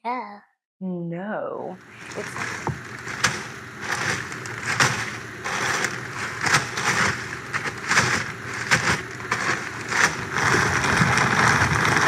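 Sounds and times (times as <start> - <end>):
plastic bag crinkling: 1.9 - 12.0.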